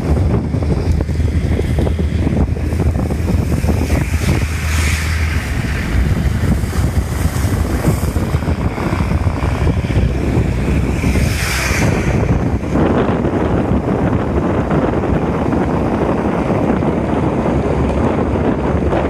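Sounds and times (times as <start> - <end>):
heavy rain: 0.0 - 19.0
low hum: 0.0 - 19.0
wind buffeting microphone: 0.0 - 19.0.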